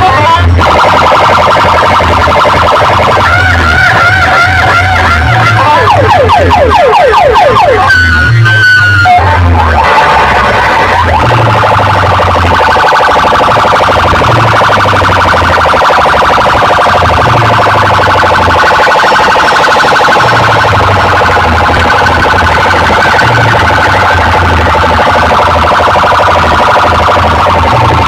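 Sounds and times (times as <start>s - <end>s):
heavy bass beats: 0.0s - 28.0s
warbling siren tone: 0.0s - 28.0s.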